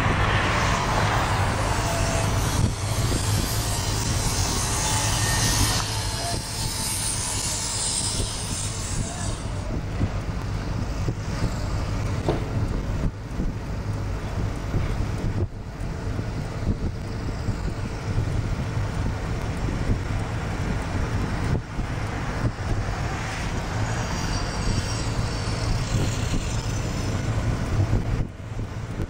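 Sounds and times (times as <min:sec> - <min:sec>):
vehicle rumble and road traffic: 0:00.0 - 0:29.0
wind noise on microphone: 0:00.0 - 0:29.0.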